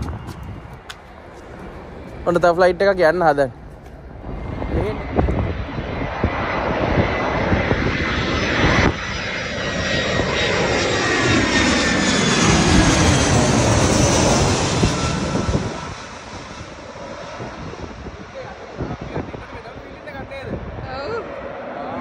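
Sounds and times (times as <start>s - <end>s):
airliner jet roar overhead: 0.0s - 22.0s.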